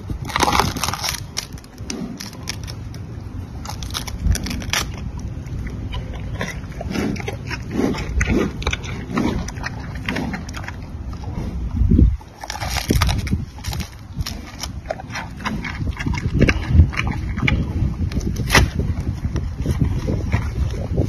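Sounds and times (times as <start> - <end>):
panda chewing bamboo: 0.0 - 21.0.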